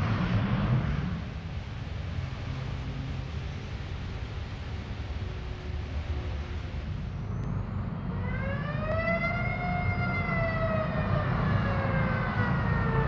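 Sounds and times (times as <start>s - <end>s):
low rumble: 0.0s - 13.0s
air-raid siren: 2.0s - 13.0s.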